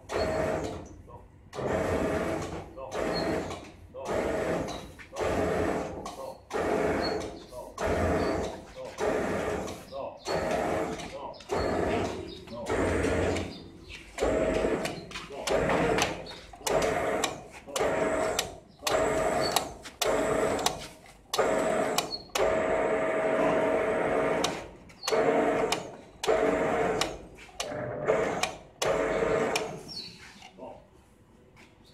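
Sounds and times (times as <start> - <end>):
packaging machine motor humming: 0.0 - 30.2.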